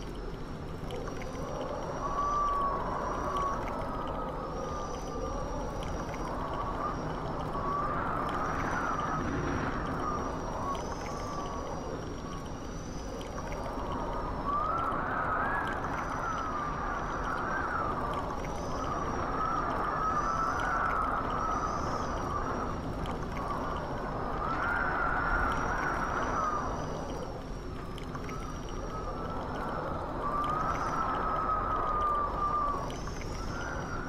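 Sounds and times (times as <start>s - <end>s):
rushing wind with whistling howls: 0.0s - 34.0s.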